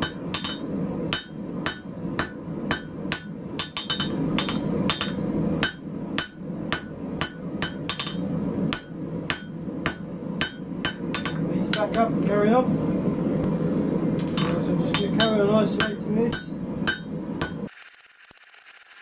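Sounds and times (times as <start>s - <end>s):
hammer clanging on anvil: 0.0s - 12.0s, 14.3s - 17.7s.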